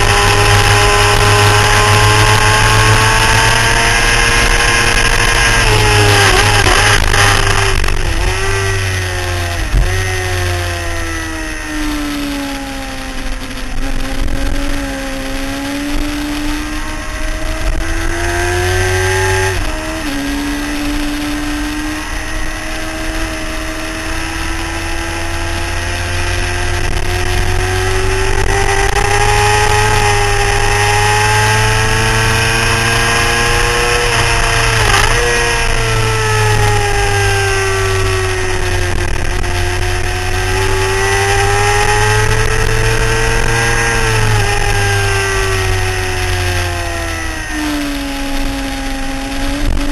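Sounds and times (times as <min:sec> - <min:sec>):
motorcycle engine at speed: 0:00.0 - 0:49.9
rush of wind: 0:00.0 - 0:49.9.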